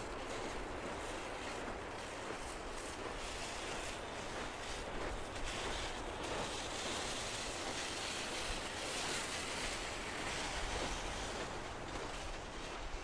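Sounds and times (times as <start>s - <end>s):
waves washing on shore: 0.0s - 13.0s.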